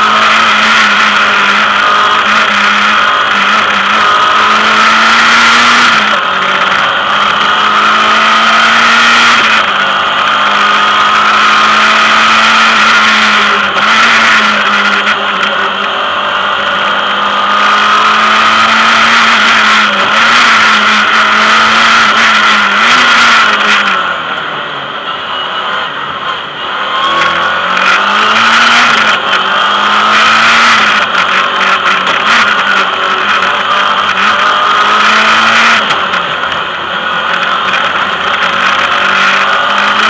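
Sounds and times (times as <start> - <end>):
rally car engine at high revs: 0.0 - 40.0.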